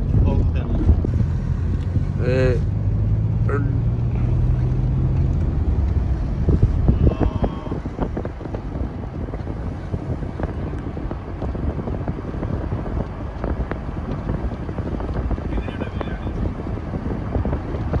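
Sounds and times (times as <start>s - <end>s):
vehicle engine hum: 0.0s - 18.0s
wind buffeting microphone: 0.0s - 18.0s.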